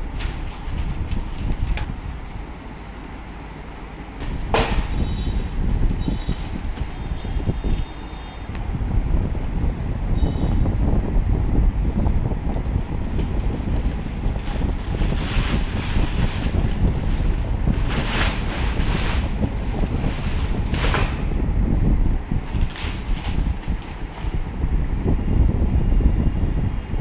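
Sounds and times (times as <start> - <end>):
wind buffeting microphone: 0.0 - 2.8, 4.1 - 27.0.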